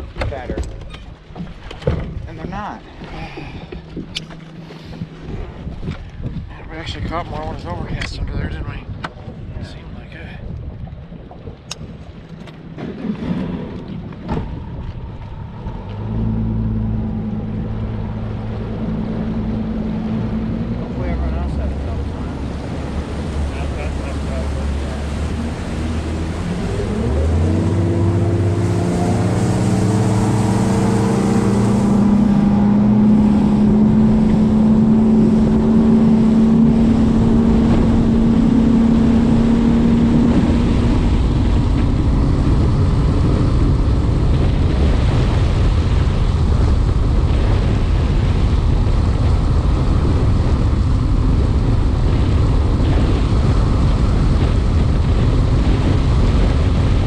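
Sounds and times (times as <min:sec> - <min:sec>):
outboard motor speeding up: 0:00.0 - 0:57.0
wind rushing over microphone: 0:00.0 - 0:57.0.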